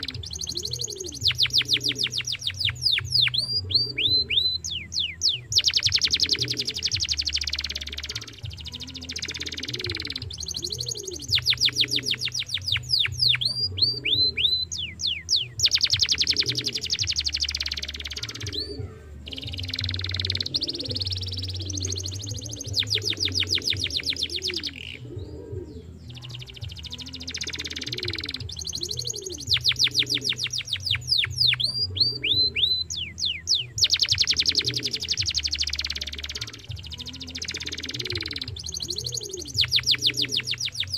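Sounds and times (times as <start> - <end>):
canary singing rapid trills: 0.0 - 40.9.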